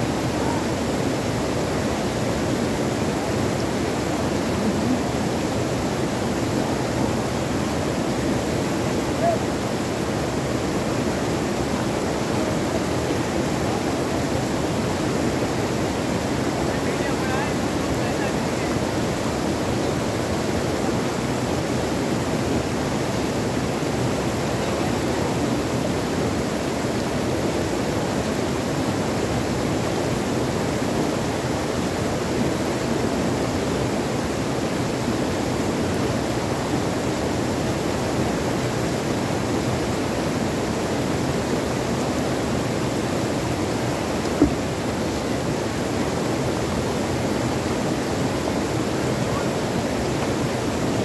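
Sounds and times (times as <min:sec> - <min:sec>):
stream cascading over boulders: 0:00.0 - 0:51.0.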